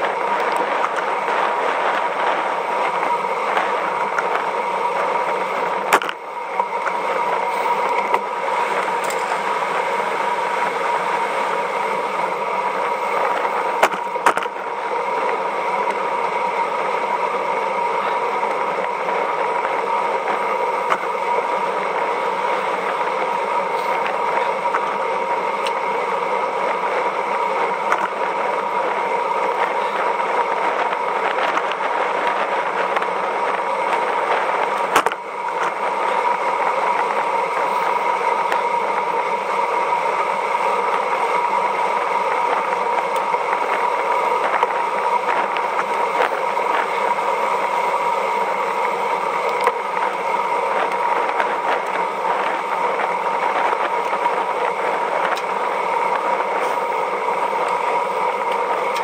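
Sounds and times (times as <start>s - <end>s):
bike tyre noise: 0.0s - 59.0s.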